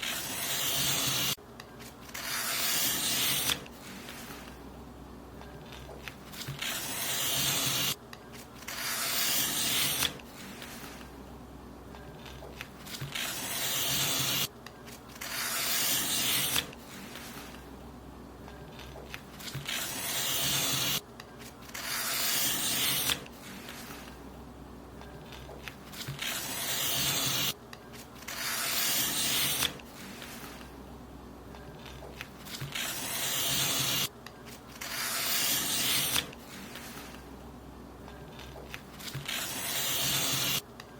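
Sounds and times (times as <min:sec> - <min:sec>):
paper being cut: 0:00.0 - 0:04.6, 0:05.7 - 0:11.0, 0:12.2 - 0:17.6, 0:18.8 - 0:24.1, 0:25.3 - 0:30.7, 0:31.8 - 0:37.2, 0:38.4 - 0:40.6.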